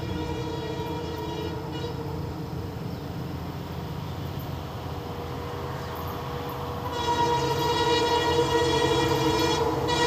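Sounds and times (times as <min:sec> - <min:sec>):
diesel locomotive rumbling: 0:00.0 - 0:10.0.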